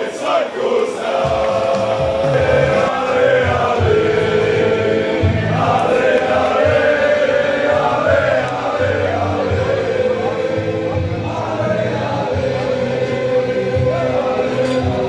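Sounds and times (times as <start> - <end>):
men singing in chorus: 0.0 - 15.0
pulsing bass beat: 1.2 - 14.2.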